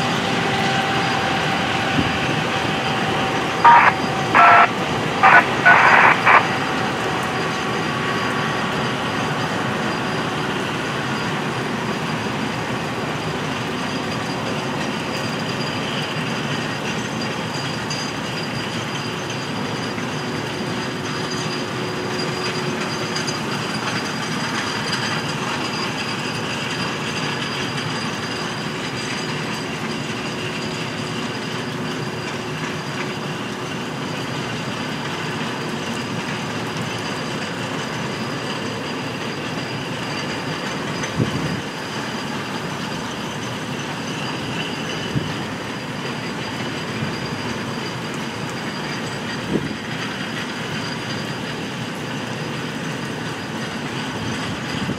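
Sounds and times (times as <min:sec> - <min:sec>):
rail carts rumbling: 0:00.0 - 0:54.9.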